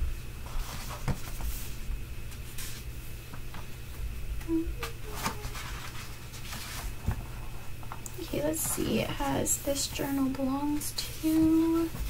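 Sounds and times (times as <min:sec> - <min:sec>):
steady low hum: 0:00.0 - 0:12.0
paper rustling: 0:00.4 - 0:02.9, 0:04.8 - 0:12.0.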